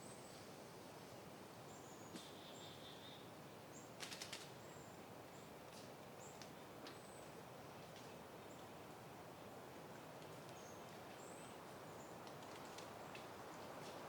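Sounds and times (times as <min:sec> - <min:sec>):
soft wind: 0:00.0 - 0:14.0.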